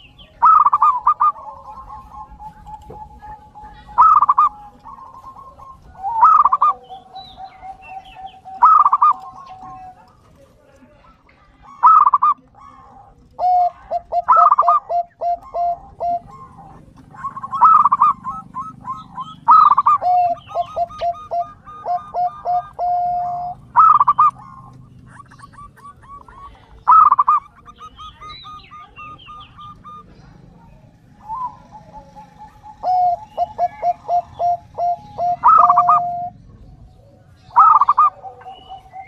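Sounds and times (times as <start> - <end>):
doves cooing: 0.0 - 39.0.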